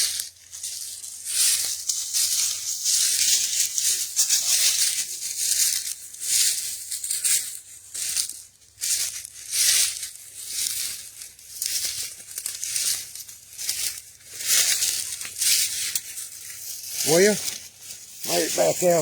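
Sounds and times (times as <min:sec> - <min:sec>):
footsteps through dry leaves: 0:00.0 - 0:19.0.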